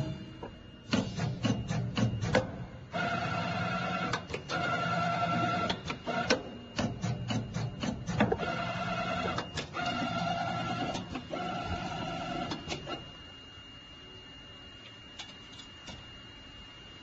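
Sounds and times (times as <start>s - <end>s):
machine motor whine: 0.0s - 17.0s.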